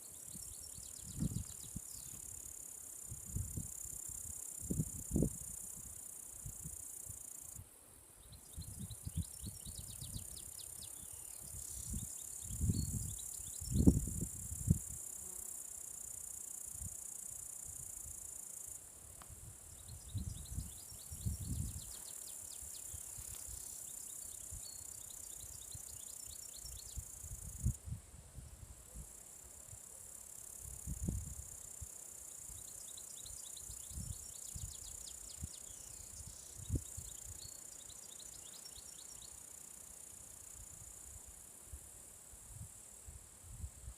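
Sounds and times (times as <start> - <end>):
rapid insect chirping: 0.0 - 43.9.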